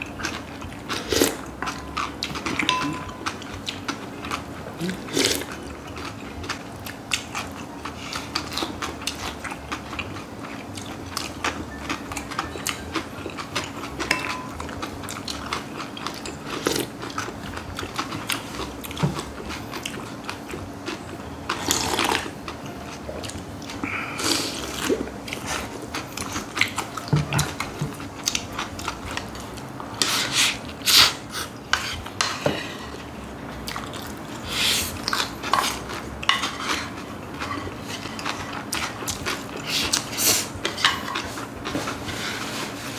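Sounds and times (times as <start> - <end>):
chewing and crunching: 0.0 - 42.9.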